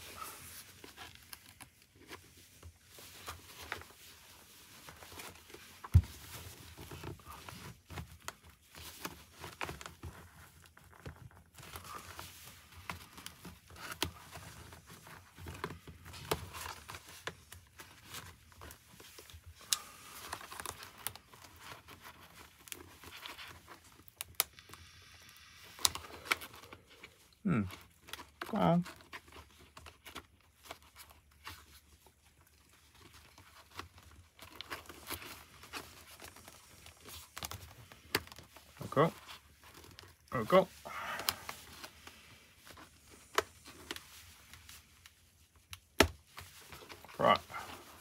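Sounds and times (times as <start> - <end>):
fabric and foam rustling: 0.0 - 24.5, 25.5 - 48.0.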